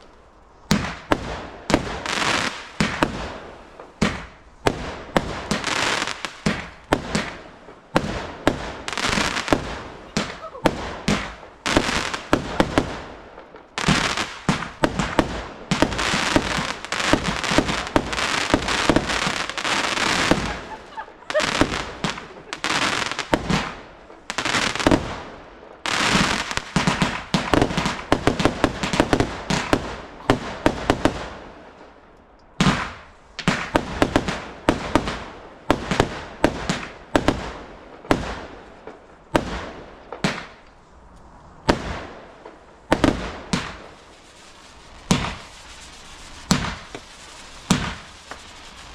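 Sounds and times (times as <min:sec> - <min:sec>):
fireworks bangs and crackle: 0:00.0 - 0:48.9.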